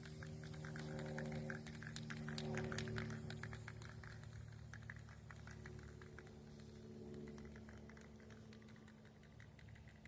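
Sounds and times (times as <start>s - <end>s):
light ticking: 0.0s - 10.0s.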